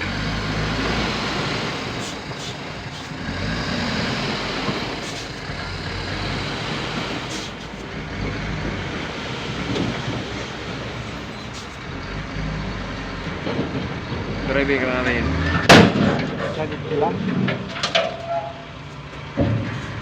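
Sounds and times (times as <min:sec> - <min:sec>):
heavy diesel machinery running: 0:00.0 - 0:20.0.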